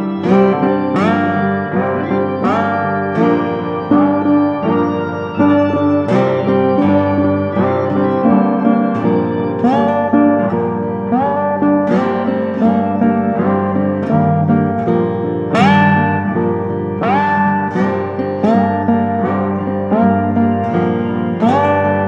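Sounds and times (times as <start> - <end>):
slide guitar music: 0.0 - 22.0.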